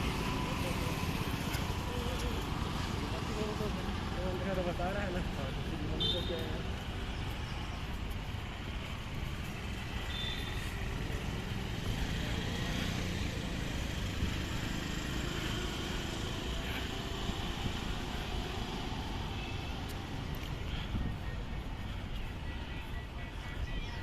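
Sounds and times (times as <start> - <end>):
passing cars rumbling: 0.0 - 23.2.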